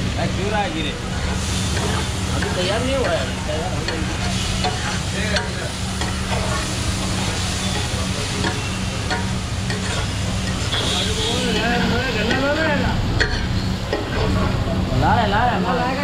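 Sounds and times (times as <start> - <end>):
rice sizzling on a griddle: 0.0 - 16.0
metal spatula scraping: 1.0 - 14.4.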